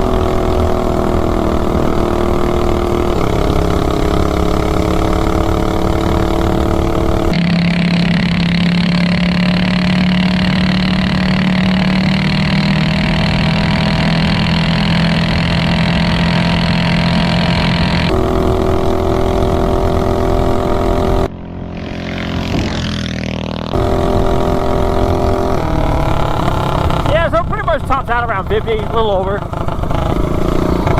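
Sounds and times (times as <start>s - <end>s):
minibike engine at high revs: 0.0s - 30.9s.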